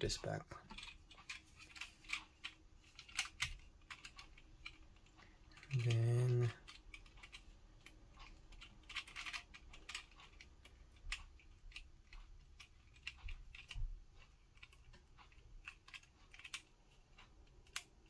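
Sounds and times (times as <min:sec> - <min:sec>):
plastic clicks and rattles: 0:00.6 - 0:18.0.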